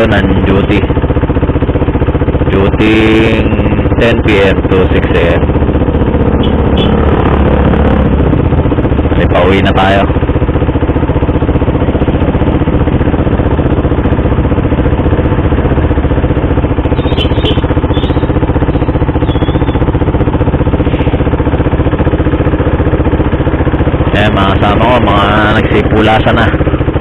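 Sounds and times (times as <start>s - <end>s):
motorcycle engine running steadily: 0.0s - 27.0s.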